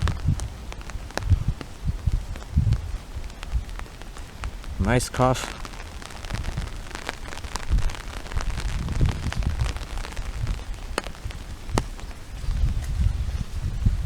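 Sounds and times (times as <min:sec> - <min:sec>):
rain falling: 0:00.0 - 0:14.0
raindrop ticks near microphone: 0:00.0 - 0:14.0.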